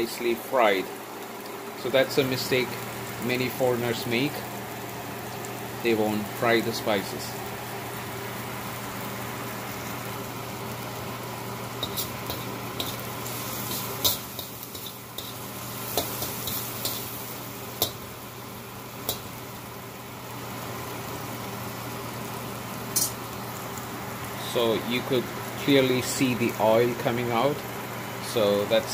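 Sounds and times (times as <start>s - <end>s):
onions sizzling in oil: 0.0s - 28.9s.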